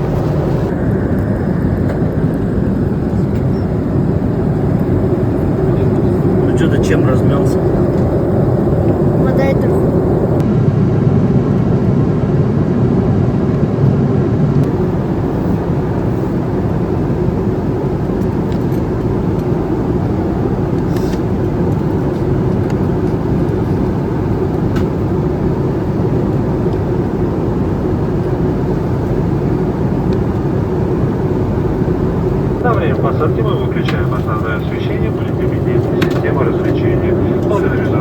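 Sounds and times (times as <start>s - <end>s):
airliner cabin noise: 0.0s - 38.0s.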